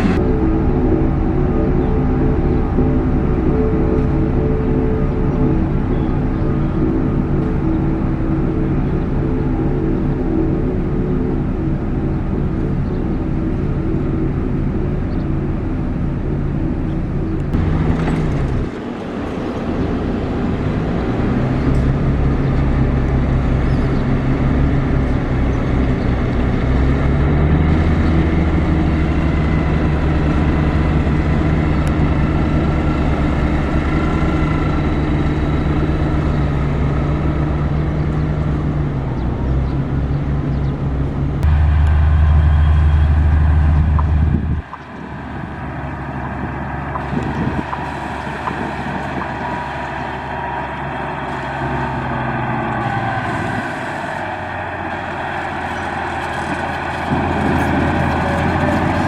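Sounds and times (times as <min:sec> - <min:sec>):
construction machine engine under load: 0:00.0 - 0:59.0
louder deeper engine: 0:00.0 - 0:59.0.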